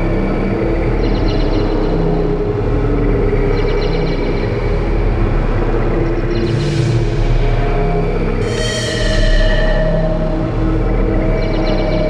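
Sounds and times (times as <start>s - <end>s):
electronic drone music: 0.0s - 12.0s.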